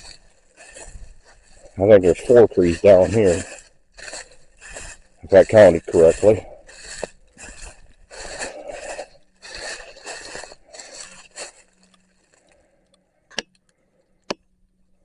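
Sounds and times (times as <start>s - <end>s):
footsteps crunching dry leaves: 0.0s - 12.8s.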